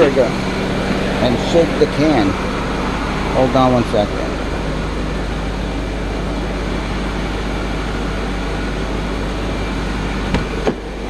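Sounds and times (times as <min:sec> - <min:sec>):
car engine and cooling fan running: 0:00.0 - 0:11.0.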